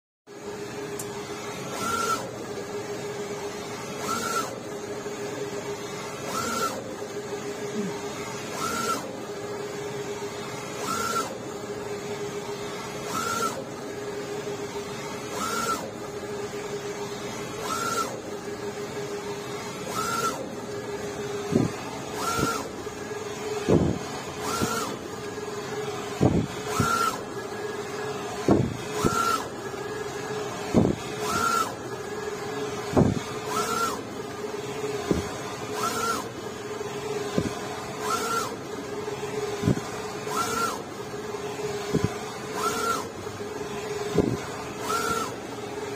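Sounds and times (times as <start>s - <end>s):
printer steady hum: 0.3s - 45.9s.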